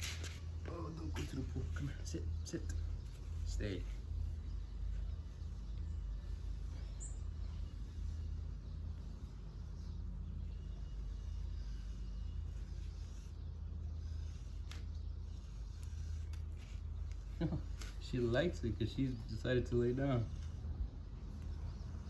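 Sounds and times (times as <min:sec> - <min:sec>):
bird chirp: 0:00.0 - 0:22.0.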